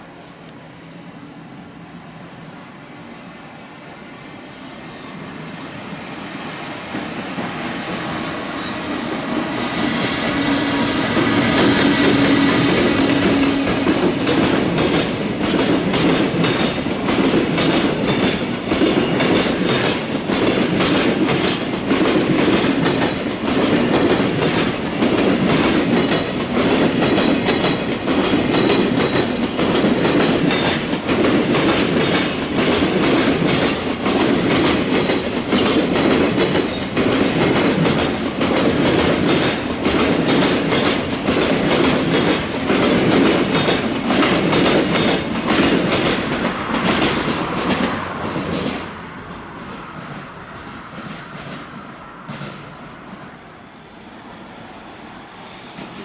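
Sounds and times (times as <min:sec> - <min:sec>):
train wheels clattering on rails: 0:06.8 - 0:53.4.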